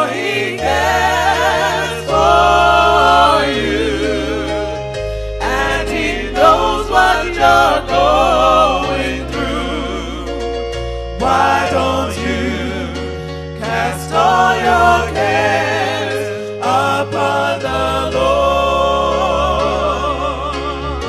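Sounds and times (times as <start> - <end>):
voices singing with vibrato: 0.0 - 10.4, 11.2 - 21.0
held bass notes: 0.0 - 21.0.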